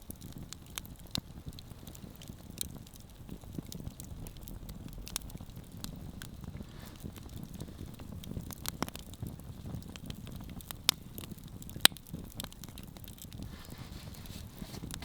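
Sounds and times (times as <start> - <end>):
sharp fire pops: 0.0 - 13.8
campfire crackling: 0.0 - 15.0
low steady rustle: 0.0 - 15.0.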